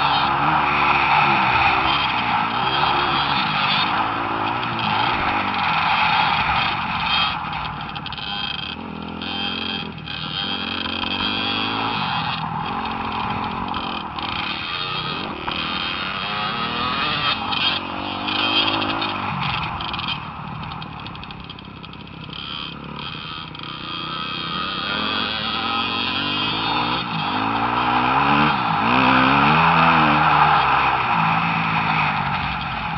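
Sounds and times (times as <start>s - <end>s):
steady rush of noise: 0.0s - 24.0s, 25.8s - 32.9s
dirt bike engines revving: 0.0s - 32.9s.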